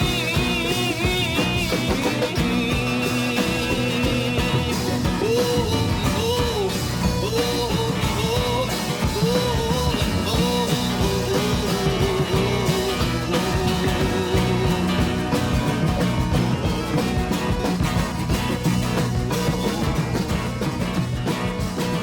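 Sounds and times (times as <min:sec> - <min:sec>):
psychedelic rock band playing: 0:00.0 - 0:22.0.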